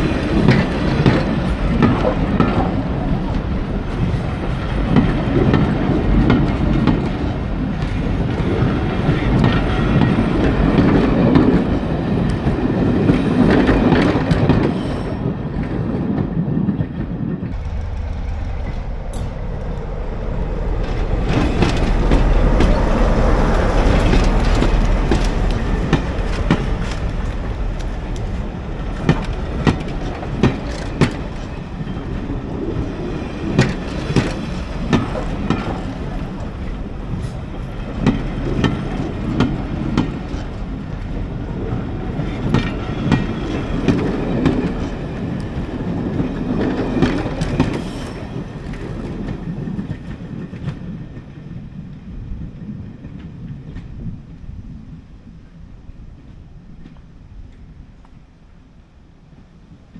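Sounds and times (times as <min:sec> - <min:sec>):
wheels clicking over rail joints: 0:00.0 - 0:15.8, 0:17.5 - 0:51.6
train engine and wheels rumbling: 0:00.0 - 0:59.9.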